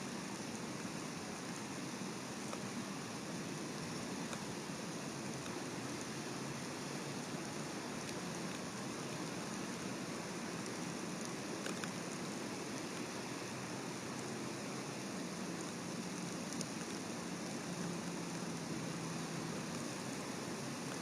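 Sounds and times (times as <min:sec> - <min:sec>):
steady rain falling: 0:00.0 - 0:21.0
faint drip ticks: 0:00.4 - 0:21.0.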